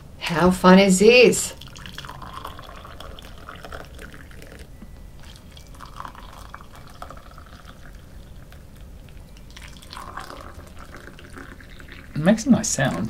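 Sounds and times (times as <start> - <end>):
hot water pouring into mugs: 1.5 - 13.0.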